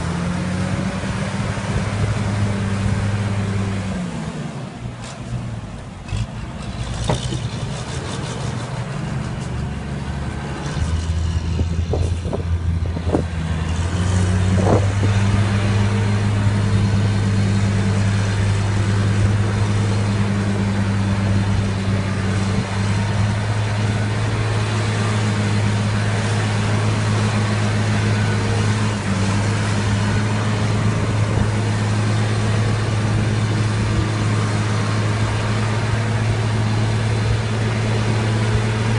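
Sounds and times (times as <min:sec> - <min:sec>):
tractor diesel engine: 0:00.0 - 0:38.9
engine knocks: 0:05.0 - 0:09.7, 0:10.4 - 0:38.9.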